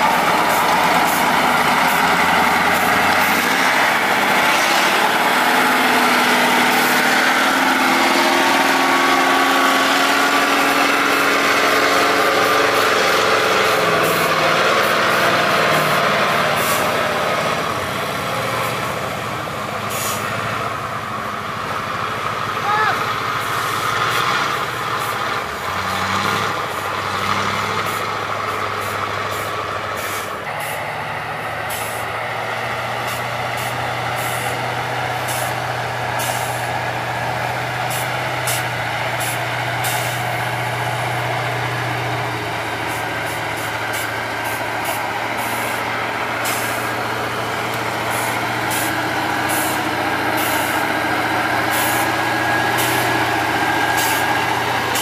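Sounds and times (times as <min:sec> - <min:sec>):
truck engine running under load: 0:00.0 - 0:55.0.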